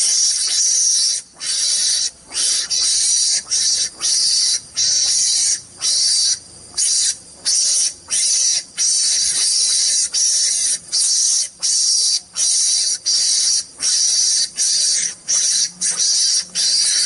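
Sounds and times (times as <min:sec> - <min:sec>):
high-pitched insect buzzing: 0:00.0 - 0:17.0.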